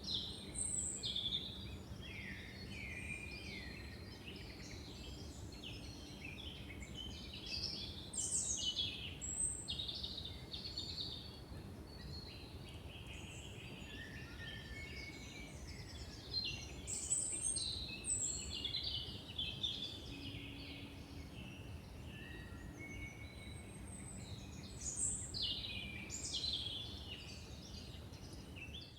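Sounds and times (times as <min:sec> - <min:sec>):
songbirds singing: 0:00.0 - 0:28.9.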